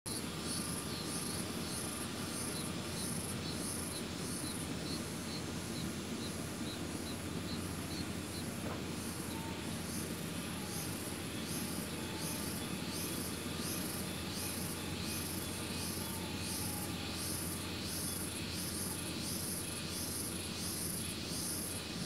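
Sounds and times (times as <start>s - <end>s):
insect chirping: 0.1s - 22.0s.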